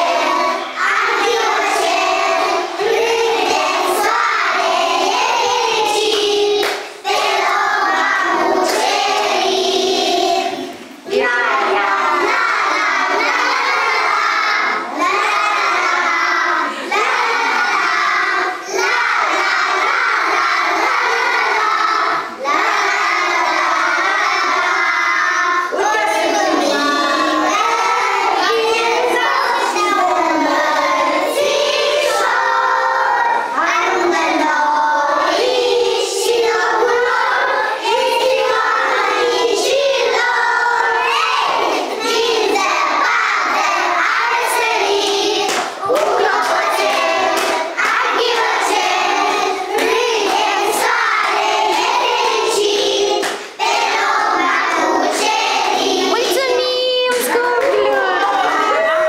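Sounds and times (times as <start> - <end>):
children singing loudly: 0.0 - 59.0.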